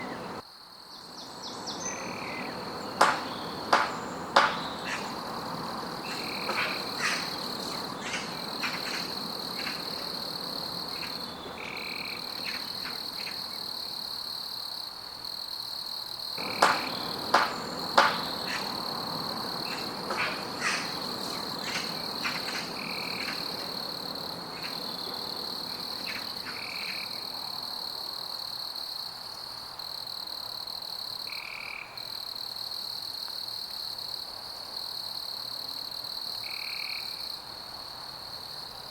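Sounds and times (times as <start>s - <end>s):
frogs croaking: 0.0s - 29.4s, 30.1s - 32.4s, 35.4s - 38.9s.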